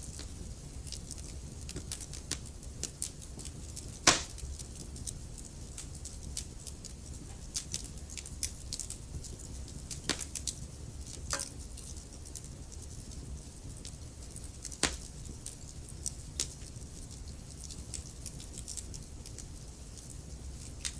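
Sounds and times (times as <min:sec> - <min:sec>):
low rumble of flames: 0:00.0 - 0:20.9
wood fire crackling: 0:00.0 - 0:20.9.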